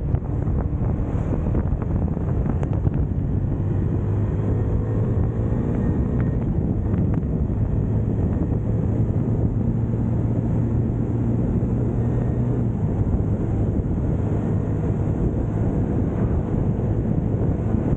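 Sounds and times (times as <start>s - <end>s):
motorcycle engine cruising: 0.0s - 17.9s
wind buffeting microphone: 0.0s - 17.9s.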